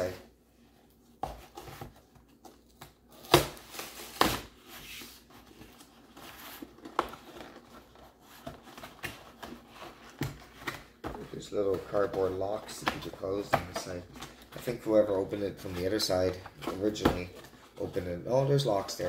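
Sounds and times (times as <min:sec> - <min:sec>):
packaging rustling and scraping: 0:01.3 - 0:19.0.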